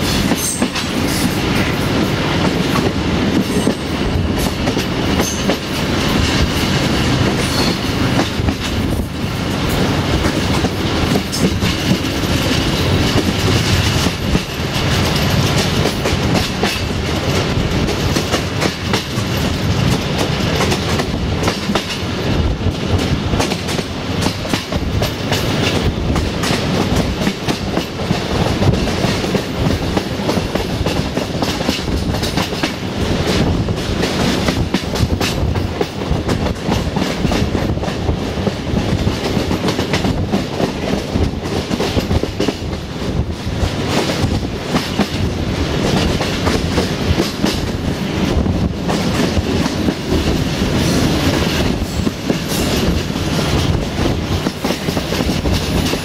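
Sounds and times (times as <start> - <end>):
train rushing rumble: 0.0 - 56.0.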